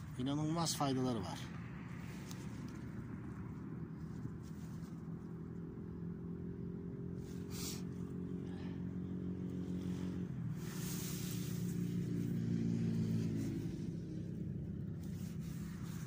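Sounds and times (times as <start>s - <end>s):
engine running: 1.1s - 16.0s.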